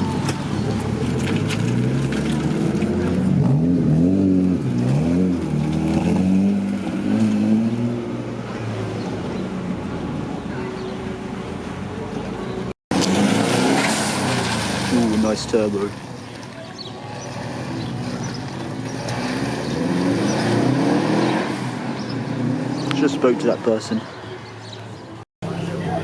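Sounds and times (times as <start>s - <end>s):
car engine idling and revving: 0.0s - 16.6s, 17.2s - 26.0s.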